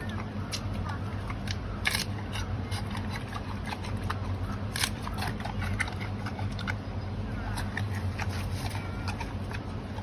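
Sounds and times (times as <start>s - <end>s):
panda chewing bamboo: 0.0s - 10.0s
steady low hum: 0.0s - 10.0s.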